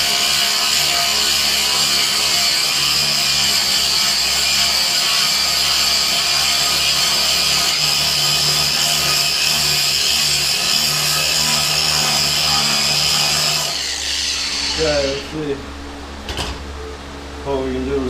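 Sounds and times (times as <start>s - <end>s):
angle grinder grinding steel: 0.0s - 15.4s.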